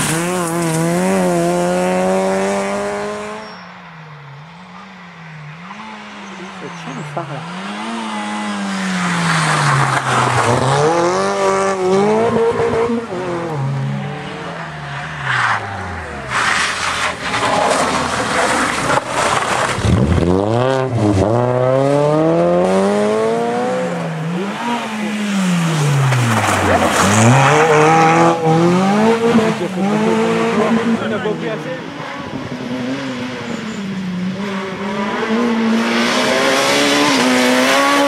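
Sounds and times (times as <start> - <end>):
rally car engine revving: 0.0 - 3.6, 4.3 - 38.0.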